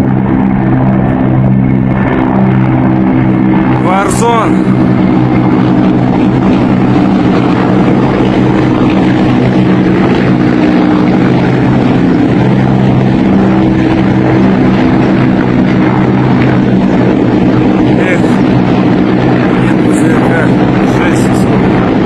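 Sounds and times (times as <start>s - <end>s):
helicopters flying overhead: 0.0s - 22.0s.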